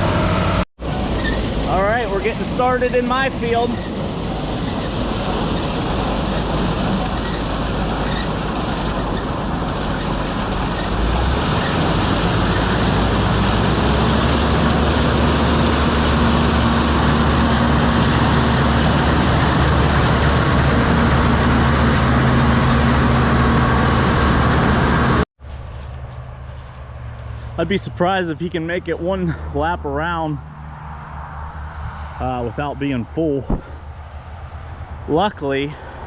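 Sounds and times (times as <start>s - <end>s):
farm machinery engine running: 0.0s - 29.0s.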